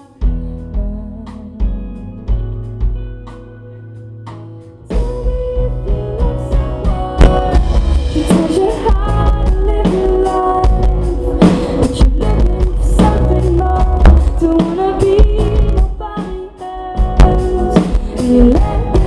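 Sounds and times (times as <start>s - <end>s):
woman singing: 0.0s - 2.4s, 4.9s - 19.0s
acoustic guitar: 0.0s - 19.0s
bass guitar: 0.0s - 19.0s
drum kit: 0.0s - 19.0s.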